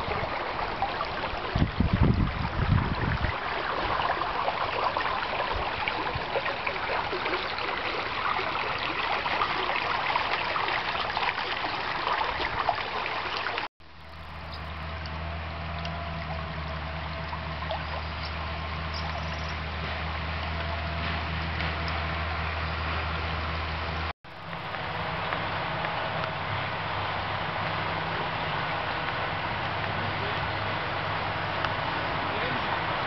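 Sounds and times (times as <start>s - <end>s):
river water rippling: 0.0s - 33.0s.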